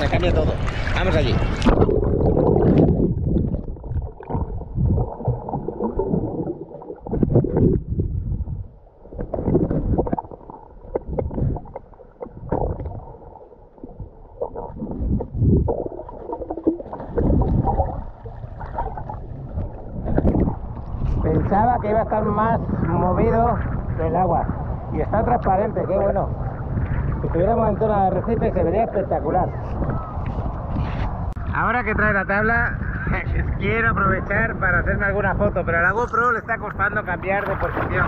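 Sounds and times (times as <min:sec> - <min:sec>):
underwater sloshing and gurgling: 0:00.0 - 0:31.4, 0:36.7 - 0:38.0.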